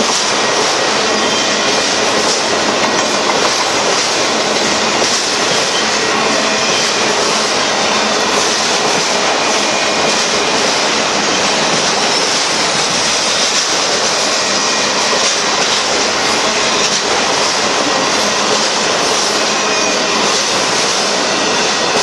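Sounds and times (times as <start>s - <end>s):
steel wheels running on rails: 0.0s - 22.0s.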